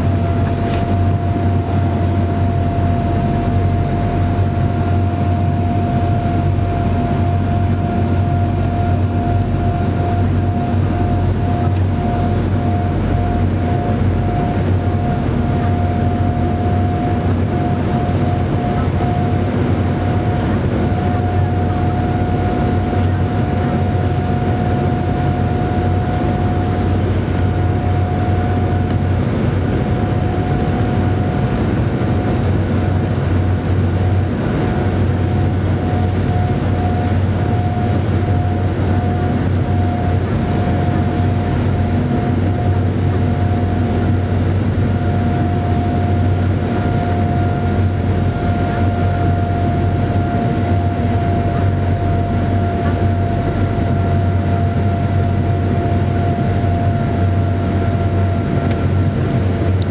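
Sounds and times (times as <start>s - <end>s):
air rushing in cabin: 0.0s - 59.9s
low jet engine drone: 0.0s - 59.9s
steady whine: 0.0s - 59.9s.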